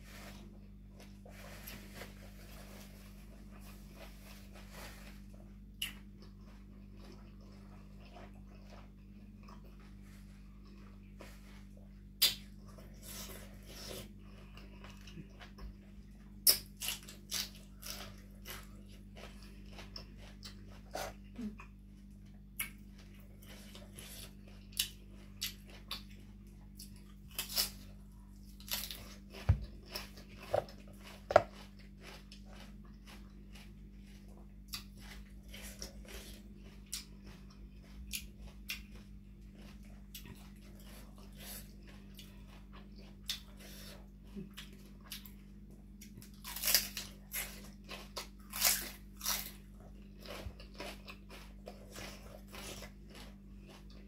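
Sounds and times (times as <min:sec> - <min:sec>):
person chewing crunchy food: 0:00.0 - 0:54.0
steady low hum: 0:00.0 - 0:54.0.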